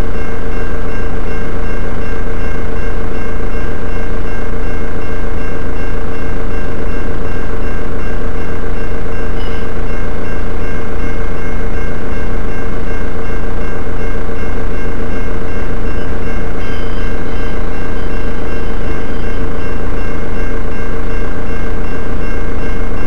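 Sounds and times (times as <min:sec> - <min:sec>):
crossing bell ringing: 0:00.0 - 0:23.0
freight train wheels on rail: 0:00.0 - 0:23.0.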